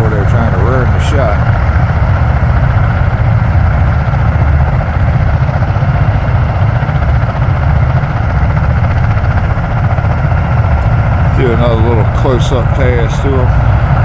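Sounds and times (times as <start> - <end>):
aircraft rotors throbbing: 0.0 - 14.0
engine hiss: 0.0 - 14.0.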